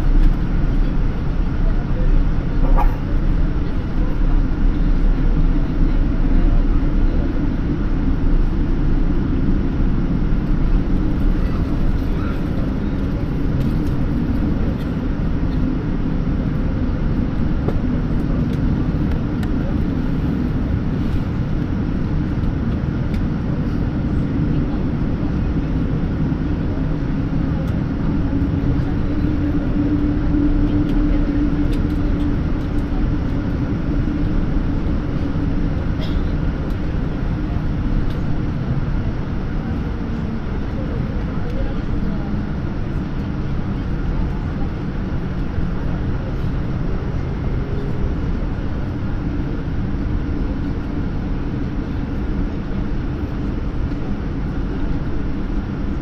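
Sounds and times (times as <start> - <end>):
airplane cabin rumble: 0.0 - 56.0
jet engines idling: 0.0 - 56.0.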